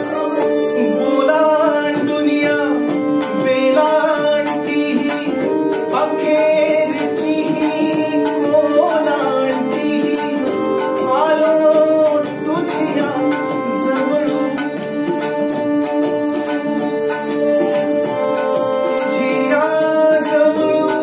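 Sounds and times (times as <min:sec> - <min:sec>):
held-note accompaniment: 0:00.0 - 0:21.0
jingly percussion strikes: 0:00.0 - 0:21.0
man singing devotional song: 0:00.0 - 0:21.0.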